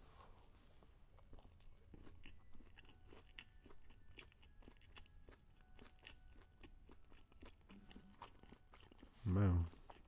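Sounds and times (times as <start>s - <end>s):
crunchy chewing: 0.2s - 10.0s.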